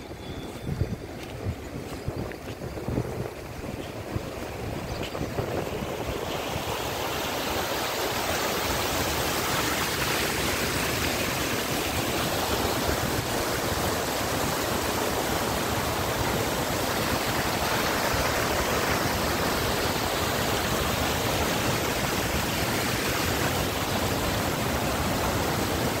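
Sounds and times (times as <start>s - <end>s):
flooded river rushing: 0.0s - 26.0s.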